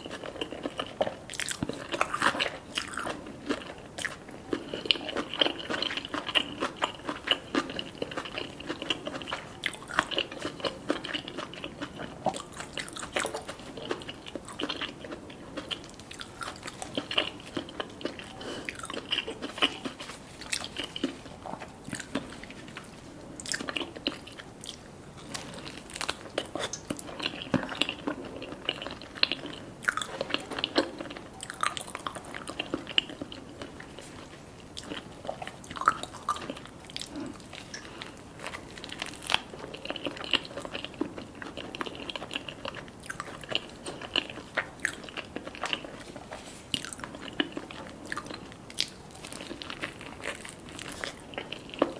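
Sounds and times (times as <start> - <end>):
person crunching food: 0.0 - 51.9
wet chewing: 0.0 - 51.9.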